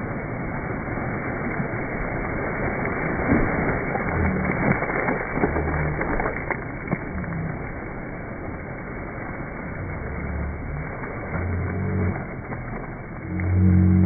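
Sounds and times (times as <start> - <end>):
steady rushing noise: 0.0 - 14.0
water splashing in pool: 0.0 - 14.0.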